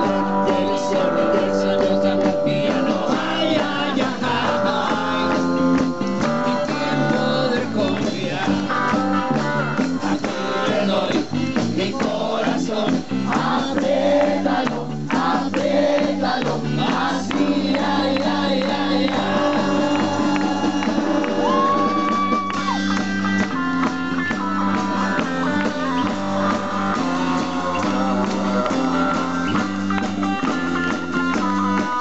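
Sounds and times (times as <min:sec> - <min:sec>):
men singing: 0:00.0 - 0:22.2, 0:24.6 - 0:29.8
live rock band playing: 0:00.0 - 0:32.0.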